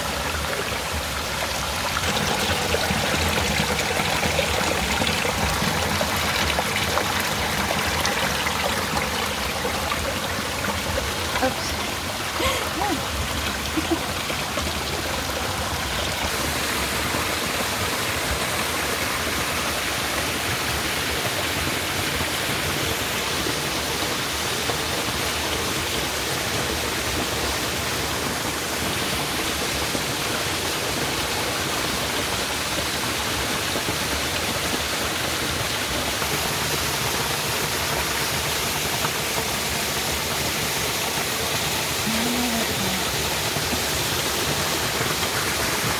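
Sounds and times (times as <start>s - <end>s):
water rushing over waterfall: 0.0s - 45.9s.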